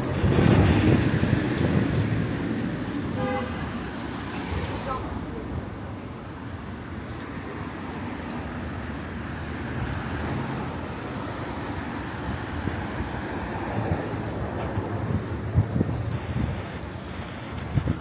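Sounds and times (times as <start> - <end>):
low rumble of street traffic: 0.0 - 18.0.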